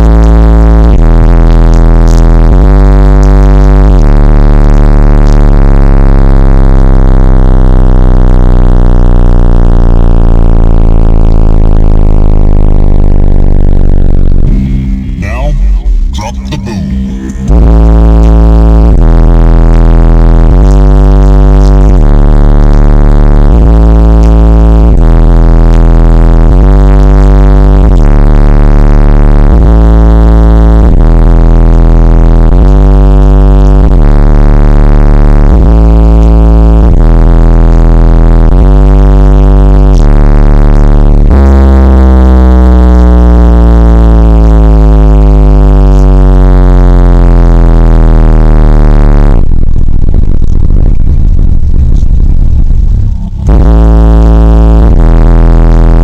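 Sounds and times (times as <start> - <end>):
electronic bass music from subwoofers: 0.0 - 56.0.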